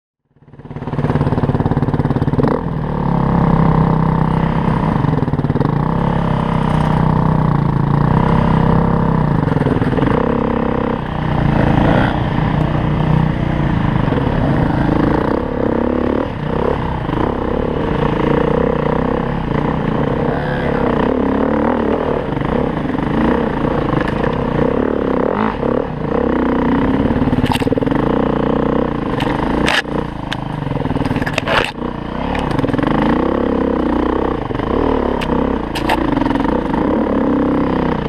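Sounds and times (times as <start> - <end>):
motorcycle engine revving: 0.2 - 38.0.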